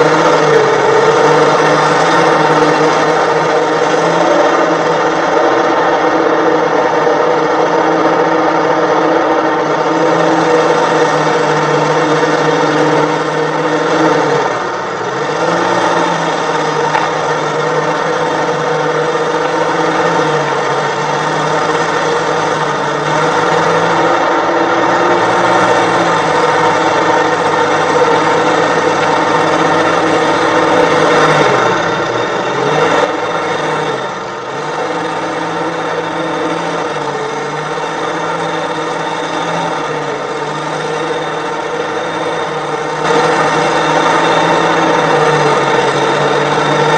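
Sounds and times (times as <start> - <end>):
diesel engine under load: 0.0 - 46.9.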